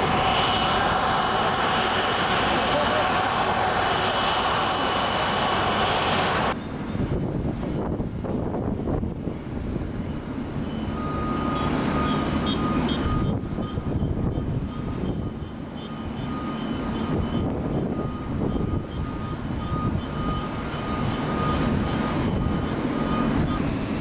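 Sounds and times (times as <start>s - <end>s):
jet airliner taxiing: 0.0s - 24.0s.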